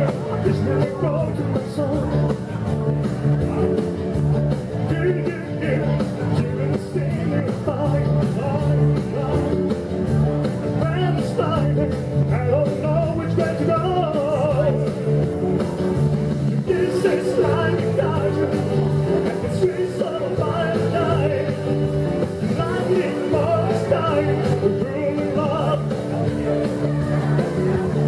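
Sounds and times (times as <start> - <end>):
person singing: 0.0 - 2.6, 4.8 - 9.8, 10.7 - 15.8, 16.5 - 28.0
bass beat: 0.0 - 28.0
rock and roll song: 0.0 - 28.0.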